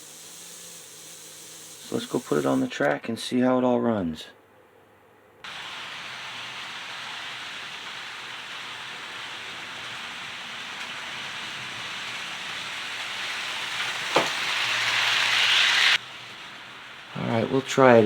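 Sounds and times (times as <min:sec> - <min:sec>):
model train motor whirring: 0:00.0 - 0:02.8, 0:05.5 - 0:18.0.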